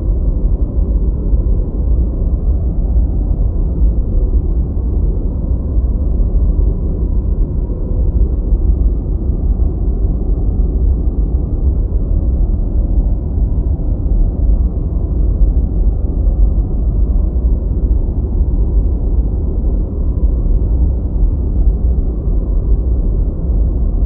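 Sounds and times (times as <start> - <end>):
deep white noise rumble: 0.0 - 24.0.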